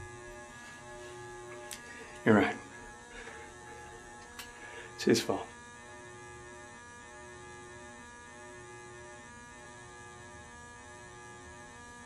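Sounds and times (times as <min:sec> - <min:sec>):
buzzy electrical hum: 0:00.0 - 0:12.0.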